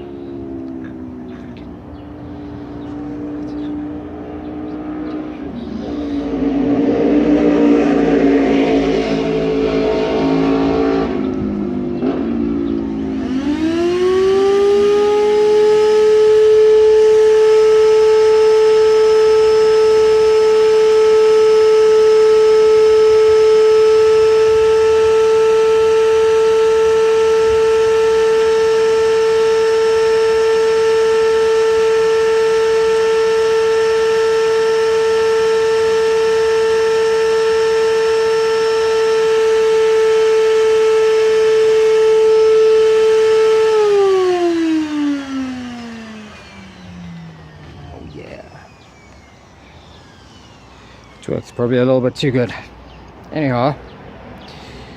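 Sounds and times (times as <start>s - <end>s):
vacuum cleaner motor whining: 0.0s - 53.2s.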